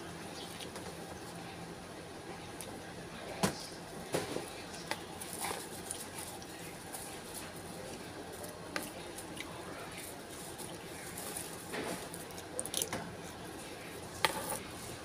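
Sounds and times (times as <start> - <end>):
soft eating sounds: 0.0 - 15.0.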